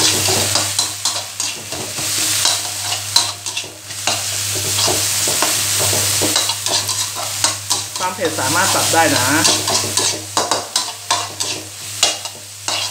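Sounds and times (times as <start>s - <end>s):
paste sizzling in oil: 0.0s - 12.9s
spatula clanking on wok: 0.0s - 12.9s
spatula scraping wok: 0.0s - 12.9s.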